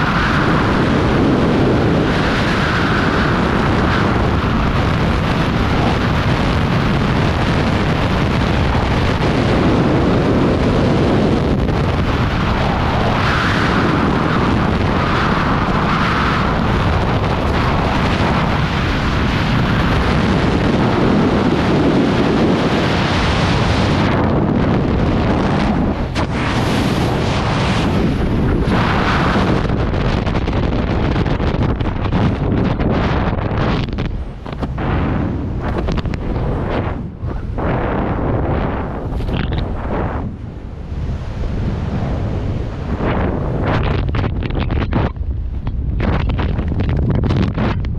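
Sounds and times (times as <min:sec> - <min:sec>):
freefall wind buffeting microphone: 0:00.0 - 0:47.9.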